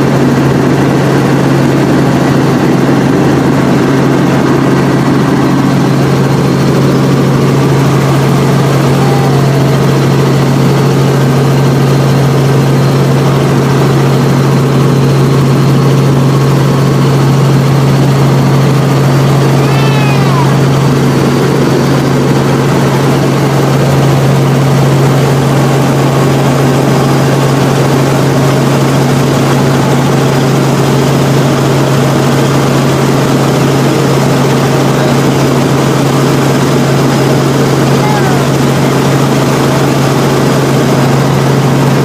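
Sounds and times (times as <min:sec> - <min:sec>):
helicopter engine and rotor drone: 0:00.0 - 0:42.0.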